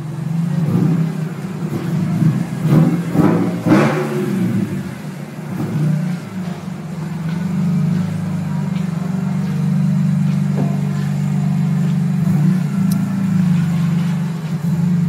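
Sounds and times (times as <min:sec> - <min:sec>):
car engine revving and droning: 0:00.0 - 0:15.0.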